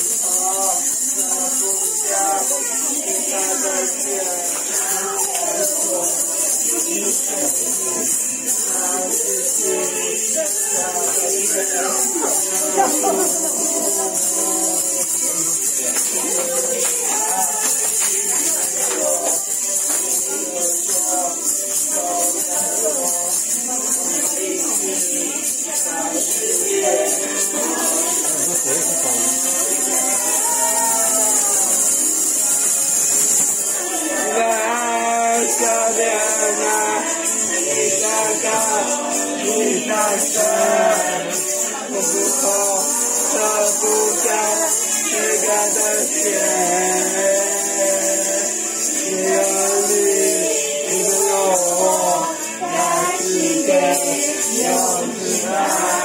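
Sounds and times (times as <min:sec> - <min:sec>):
upbeat music with jingling percussion: 0:00.0 - 0:56.0.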